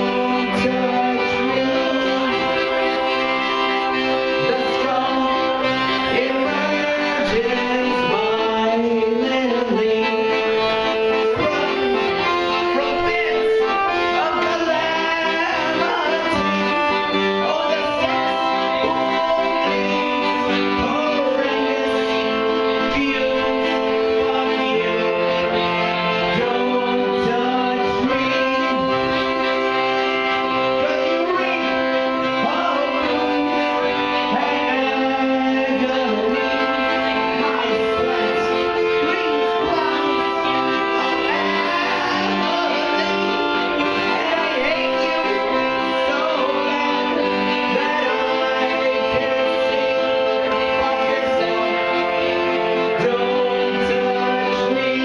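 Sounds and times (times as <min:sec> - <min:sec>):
button accordion chords: 0:00.0 - 0:55.0
man singing: 0:00.0 - 0:55.0.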